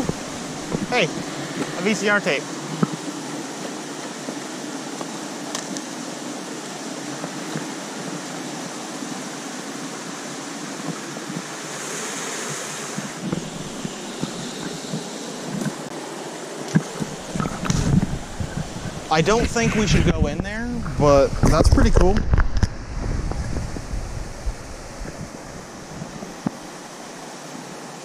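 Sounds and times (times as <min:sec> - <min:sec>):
river flowing over rocks: 0:00.0 - 0:20.2, 0:22.3 - 0:28.0.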